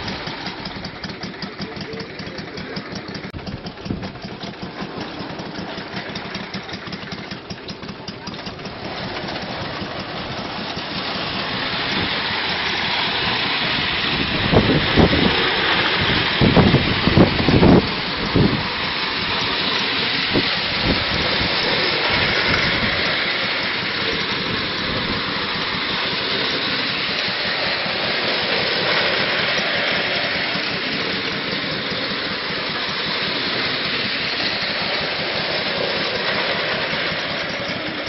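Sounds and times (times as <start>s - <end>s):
clockwork toy train whirring rattle: 0.0s - 38.0s.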